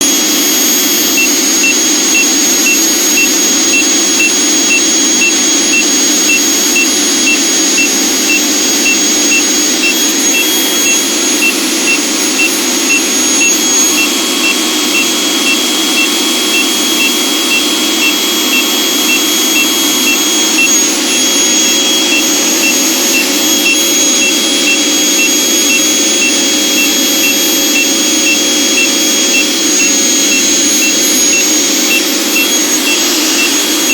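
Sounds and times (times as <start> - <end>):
meter alarm beeping: 0.0 - 33.9
vacuum cleaner running: 0.0 - 33.9.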